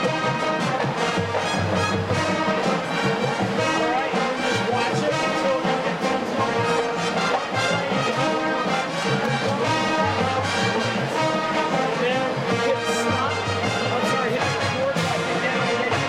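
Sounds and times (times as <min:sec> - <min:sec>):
marching band playing rock: 0:00.0 - 0:16.0.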